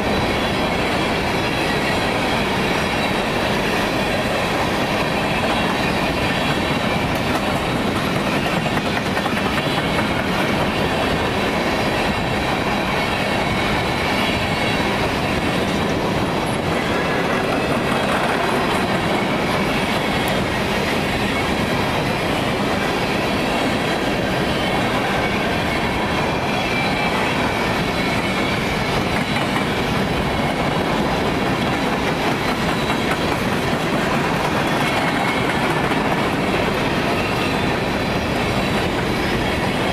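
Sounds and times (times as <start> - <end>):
railroad cars rolling past: 0.0 - 39.9.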